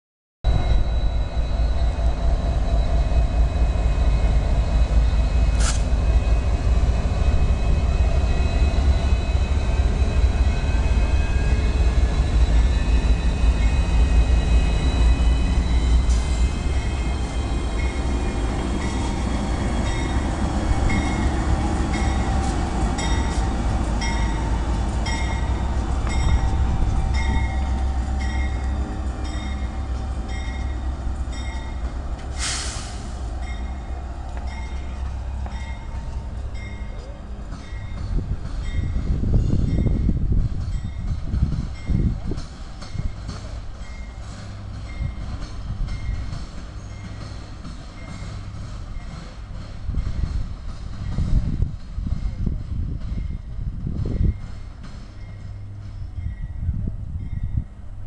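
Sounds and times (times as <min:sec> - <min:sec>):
diesel locomotives rumbling past: 0:00.4 - 0:58.0.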